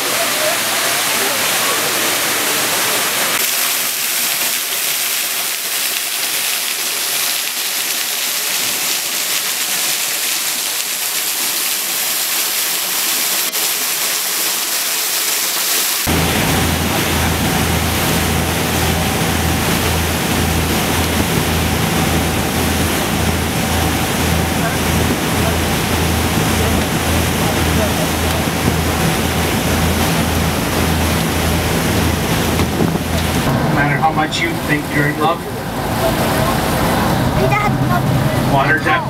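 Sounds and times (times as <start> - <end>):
boat engine humming: 0.0 - 39.0
water noise: 0.0 - 39.0
waterfall rushing: 0.0 - 39.0.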